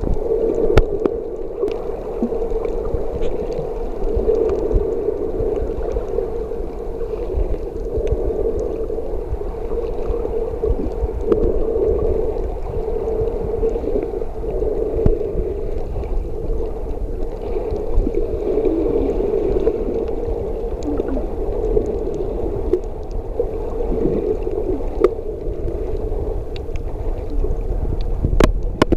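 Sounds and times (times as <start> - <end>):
faint clicks: 0.0 - 28.9
muffled underwater hum: 0.0 - 28.9
water gurgling: 0.0 - 28.9.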